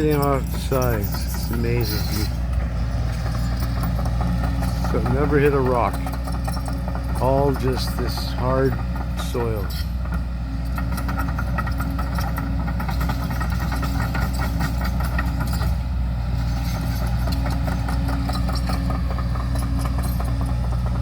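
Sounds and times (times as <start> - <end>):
backhoe engine running: 0.0 - 21.0.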